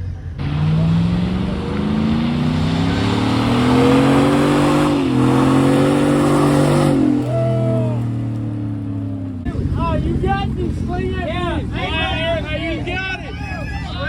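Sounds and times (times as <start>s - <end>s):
spinning tyres rushing: 0.0s - 14.0s
truck engine revving hard: 0.0s - 14.0s.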